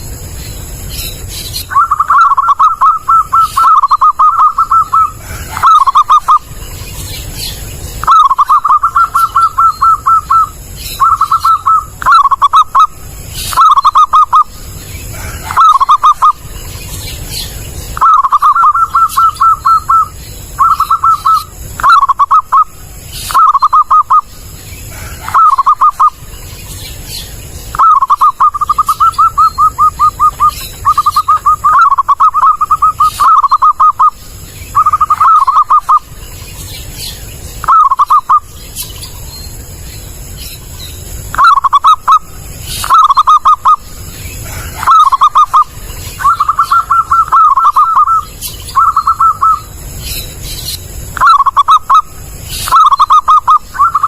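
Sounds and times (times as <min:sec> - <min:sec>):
dove cooing: 0:01.6 - 0:26.3, 0:27.1 - 0:36.2, 0:37.6 - 0:38.5, 0:41.3 - 0:49.7, 0:51.1 - 0:54.0.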